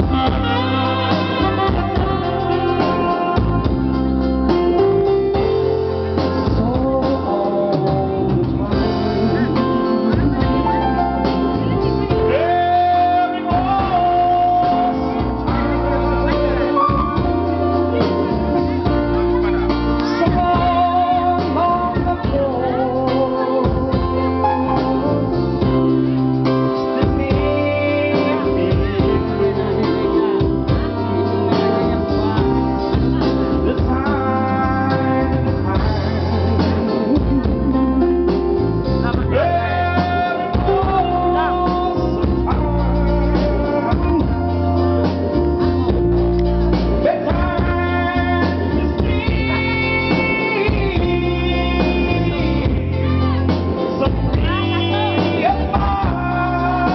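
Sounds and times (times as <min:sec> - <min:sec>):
live pop band with guitar: 0:00.0 - 0:56.9
man singing: 0:00.0 - 0:56.9.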